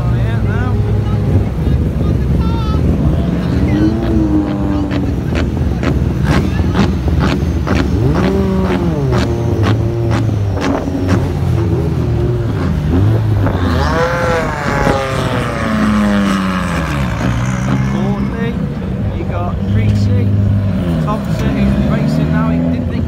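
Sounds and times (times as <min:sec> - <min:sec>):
race car engines revving: 0:00.0 - 0:23.0.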